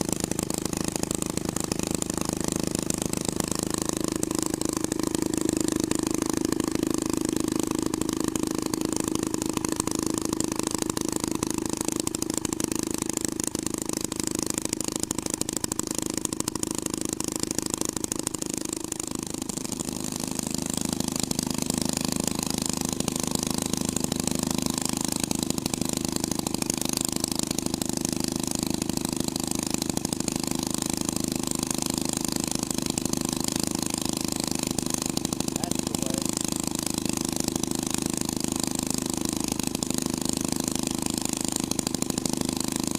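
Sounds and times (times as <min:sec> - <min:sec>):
hot rod engine running: 0:00.0 - 0:42.9.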